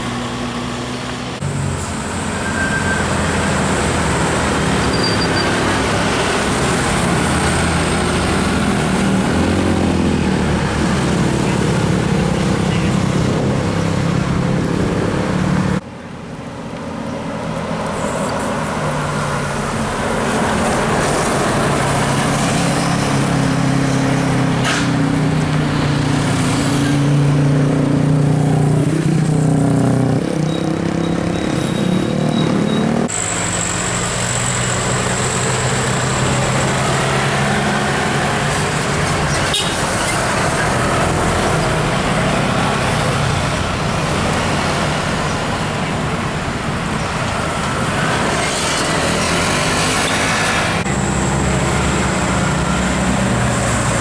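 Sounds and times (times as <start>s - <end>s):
large vehicle engines climbing: 0.0s - 54.0s.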